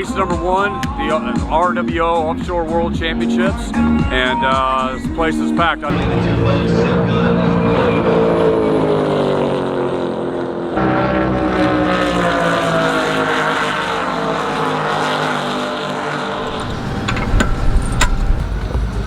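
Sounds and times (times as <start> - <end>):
powerboat engines passing: 3.3 - 19.0.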